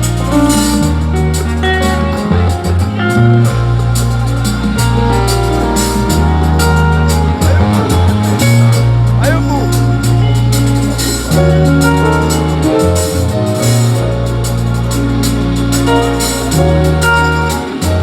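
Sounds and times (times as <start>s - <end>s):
deep bass notes: 0.0s - 18.0s
drum beat with cymbal ticks: 0.0s - 18.0s
keyboard melody: 0.0s - 18.0s.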